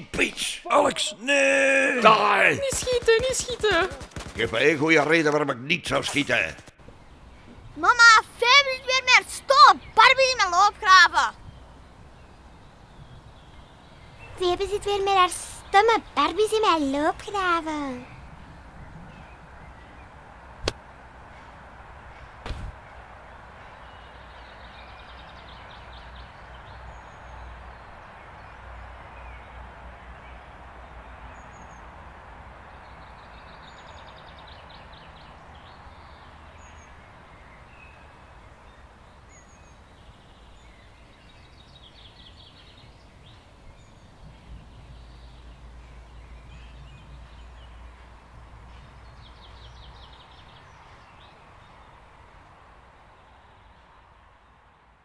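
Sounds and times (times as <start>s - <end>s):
small birds chirping: 0.0s - 5.2s, 5.8s - 54.6s.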